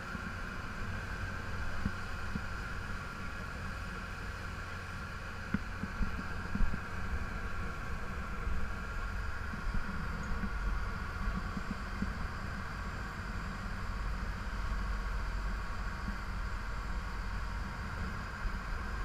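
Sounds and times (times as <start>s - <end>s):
boat engine rumbling: 0.0s - 19.0s
rush of boat wake: 0.0s - 19.0s.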